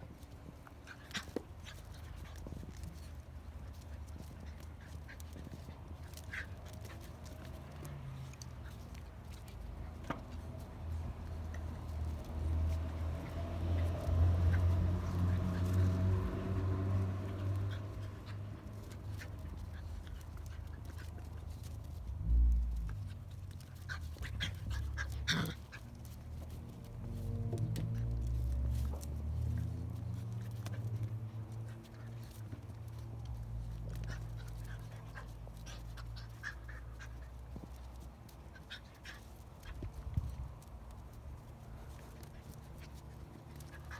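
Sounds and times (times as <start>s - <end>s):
puppies growling: 0.2s - 43.9s.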